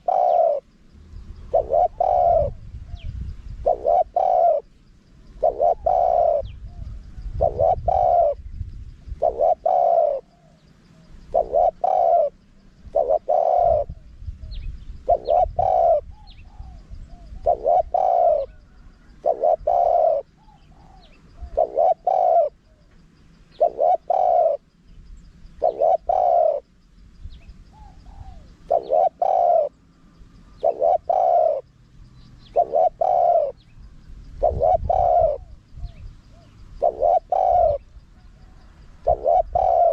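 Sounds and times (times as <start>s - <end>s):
dove cooing: 0.0s - 24.7s, 25.5s - 26.7s, 27.4s - 29.8s, 30.4s - 39.9s.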